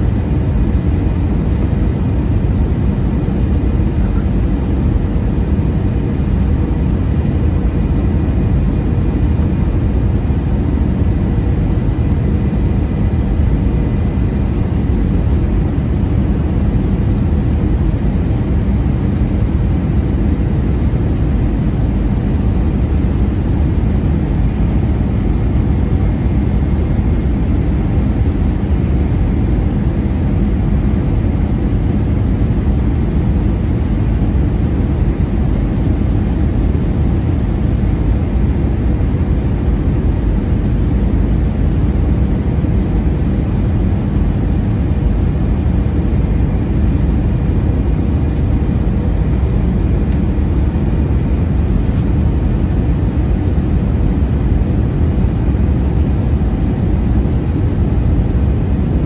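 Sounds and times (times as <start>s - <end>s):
airflow and jet engine rumble: 0.0s - 59.0s
faint whine: 0.0s - 59.0s.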